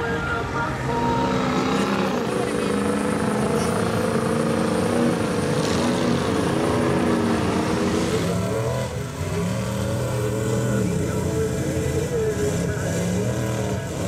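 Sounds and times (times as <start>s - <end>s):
diesel truck engine driving through mud: 0.0s - 14.0s.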